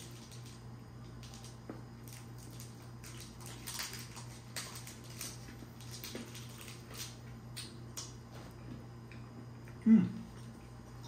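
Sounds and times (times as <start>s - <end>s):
steady low hum: 0.0s - 11.0s
people chewing: 1.3s - 11.0s.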